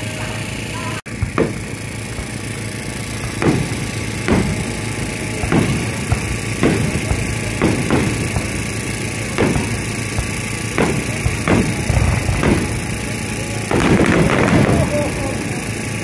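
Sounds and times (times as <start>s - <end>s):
fireworks booming: 0.0s - 16.0s
low background rumble: 0.0s - 16.0s.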